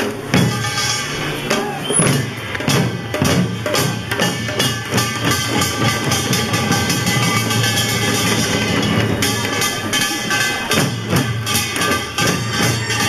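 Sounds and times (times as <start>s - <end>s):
barrel drums beaten: 0.0s - 13.0s.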